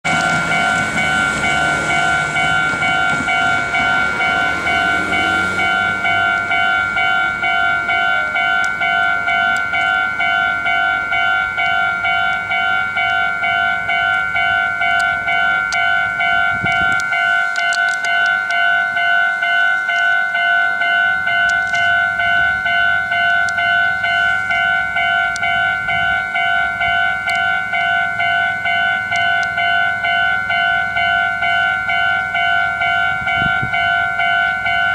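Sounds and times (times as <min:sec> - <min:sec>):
level crossing warning bell ringing: 0:00.0 - 0:34.9
passing train rumble: 0:00.0 - 0:34.9.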